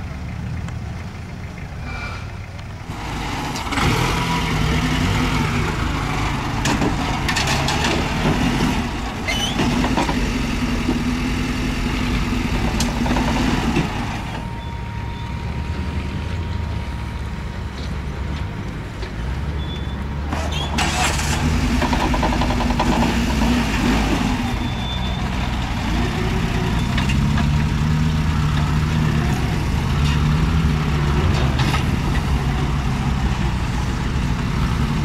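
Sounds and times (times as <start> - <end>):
off-road engine revving: 1.8 - 35.0.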